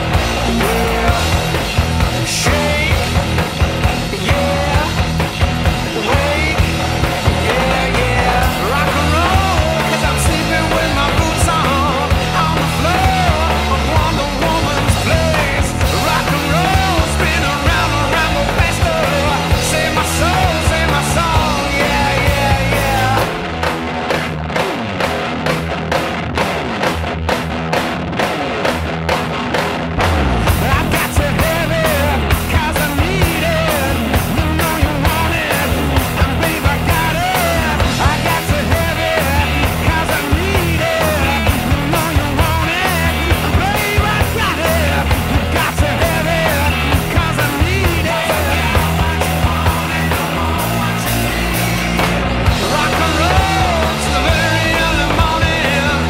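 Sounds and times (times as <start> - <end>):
rock music with steady beat: 0.0 - 56.0.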